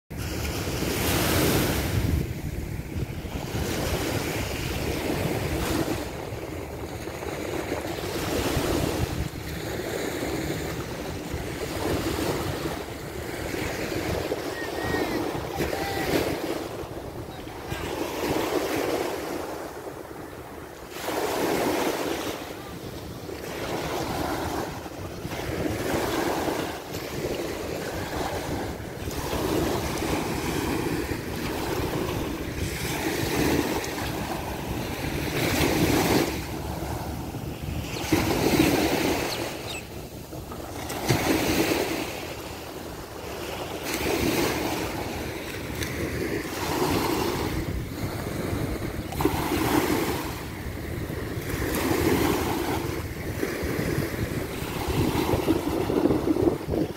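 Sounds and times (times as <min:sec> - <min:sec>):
small waves breaking on sand: 0:00.2 - 0:56.9.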